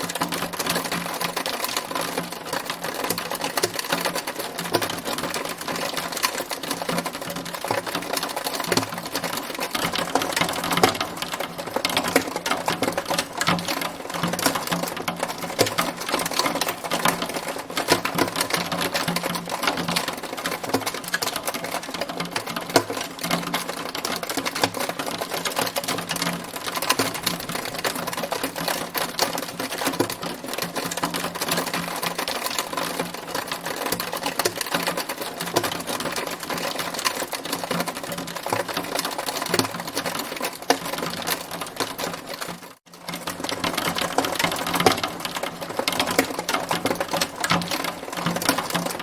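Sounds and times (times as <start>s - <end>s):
hail pelting a hard surface: 0.0s - 49.0s.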